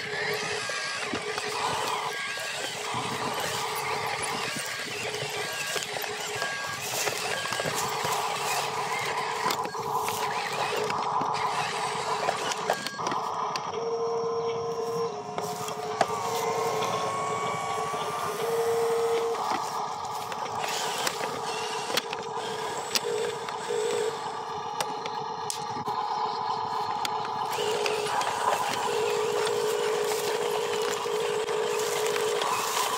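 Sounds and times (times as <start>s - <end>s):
electric motor whine: 0.0s - 32.9s.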